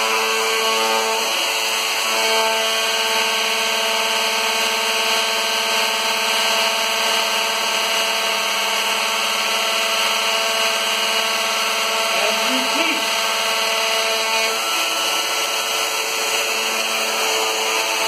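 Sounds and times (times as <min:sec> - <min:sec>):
router whining while cutting wood: 0:00.0 - 0:18.0.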